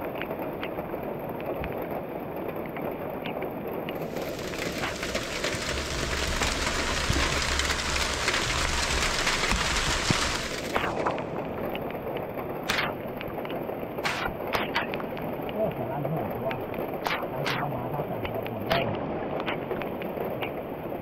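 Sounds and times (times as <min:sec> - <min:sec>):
raindrops ticking: 0:00.0 - 0:21.0
heavy rain hissing: 0:04.0 - 0:21.0.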